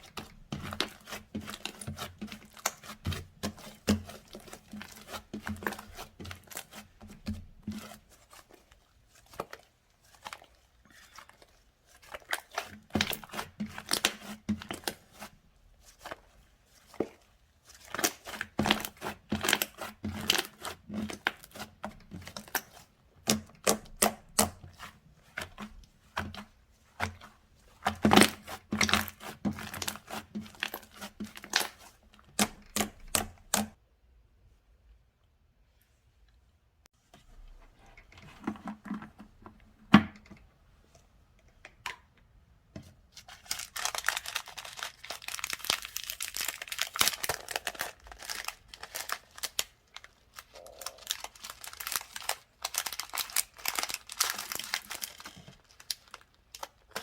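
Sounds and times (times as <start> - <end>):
slime squished by hands: 0.0 - 33.8, 43.2 - 57.0.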